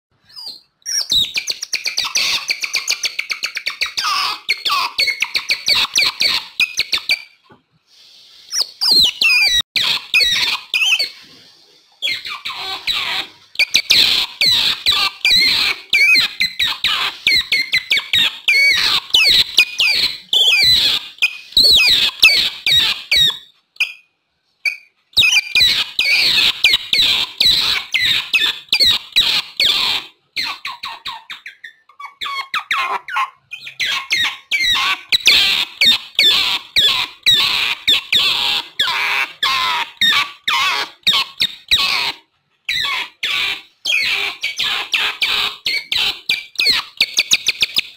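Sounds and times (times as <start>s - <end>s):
otters chirping: 0.2s - 7.5s, 8.4s - 47.9s.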